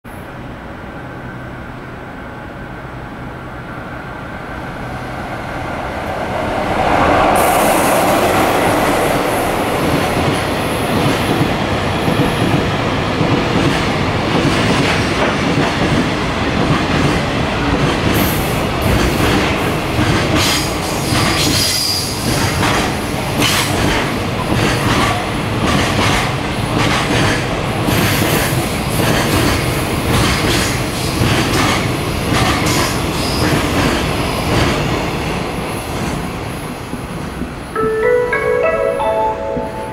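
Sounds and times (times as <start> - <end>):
freight train wheel-on-rail rumble: 0.1 - 37.8.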